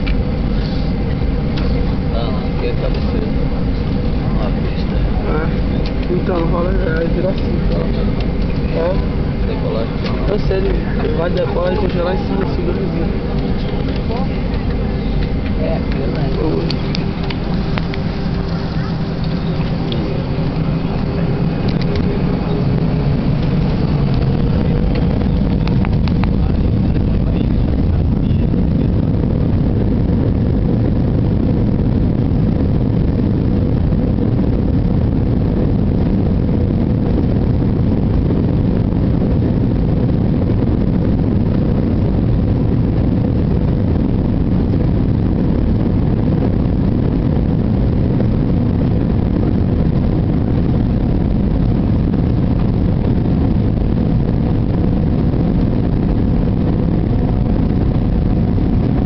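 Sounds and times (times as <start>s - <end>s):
faint steady hums: 0.0s - 59.0s
jet engines rumbling: 0.0s - 59.0s.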